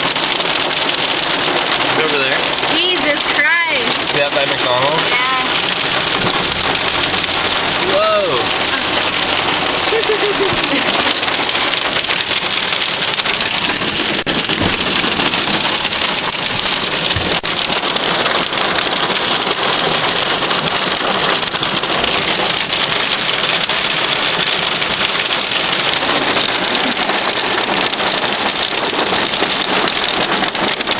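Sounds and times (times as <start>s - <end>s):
hail and heavy rain pelting: 0.0s - 30.9s.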